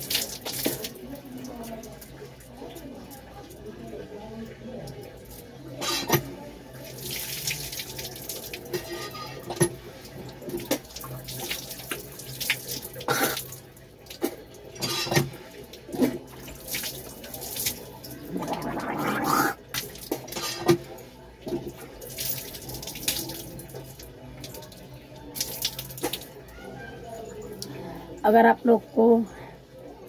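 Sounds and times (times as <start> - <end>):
water splashing at a tap: 0.0 - 27.8.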